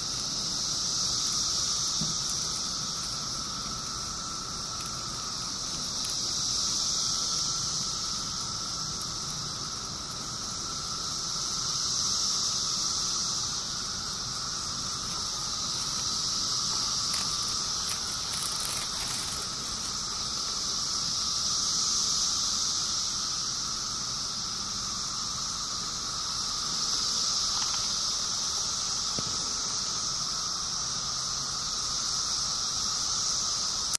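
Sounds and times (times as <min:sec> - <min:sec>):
cicadas droning buzz: 0:00.0 - 0:33.9.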